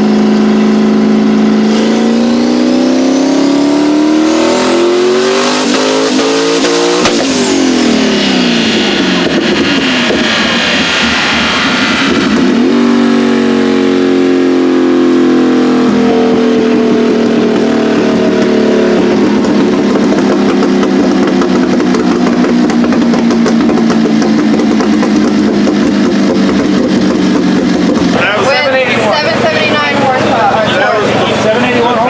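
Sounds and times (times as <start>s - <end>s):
car engine revving high: 0.0s - 31.7s.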